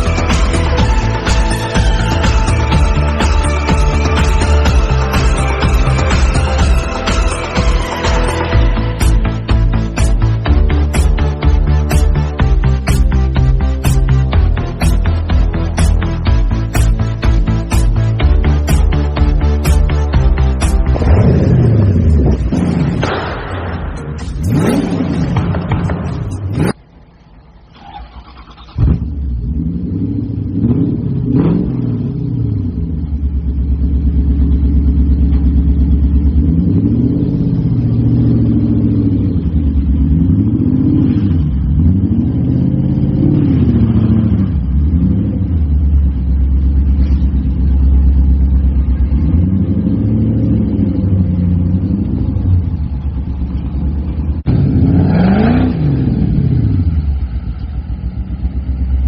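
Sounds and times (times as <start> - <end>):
car engine revving: 0.0 - 27.1, 28.0 - 59.0.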